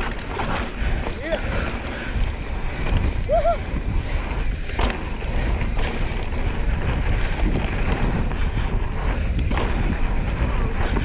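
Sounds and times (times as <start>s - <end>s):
bike clacking and knocking: 0.0s - 11.0s
bike tyres rolling on dirt: 0.0s - 11.0s
wind buffeting microphone: 0.0s - 11.0s.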